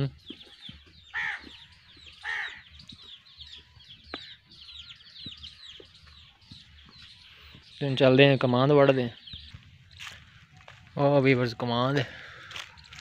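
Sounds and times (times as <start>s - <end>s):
loud falling bird calls: 0.0s - 11.0s, 11.8s - 13.0s
birds chirping: 0.0s - 13.0s.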